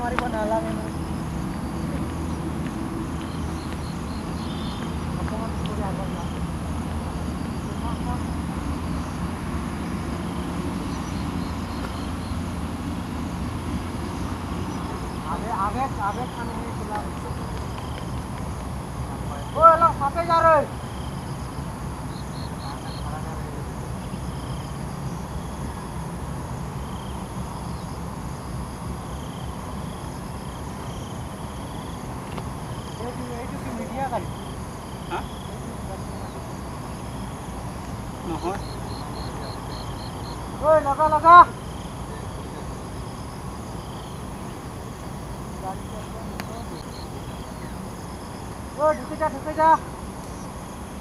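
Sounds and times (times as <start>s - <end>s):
high-pitched insect drone: 0.0s - 18.0s, 18.8s - 51.0s
insects pulsed trills: 0.0s - 51.0s.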